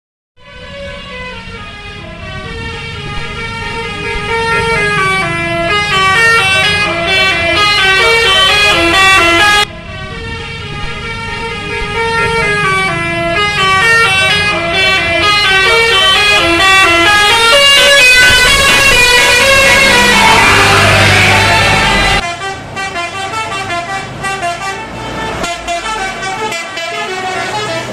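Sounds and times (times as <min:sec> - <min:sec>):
bus engine noise: 0:00.4 - 0:27.9
multi-tone bus horns melody: 0:00.4 - 0:27.9.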